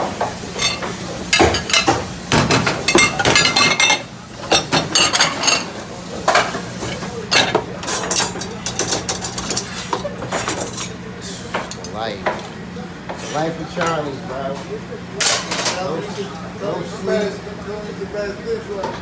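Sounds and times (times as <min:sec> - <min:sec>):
dishes and cutlery clattering: 0:00.2 - 0:12.5, 0:13.1 - 0:16.4.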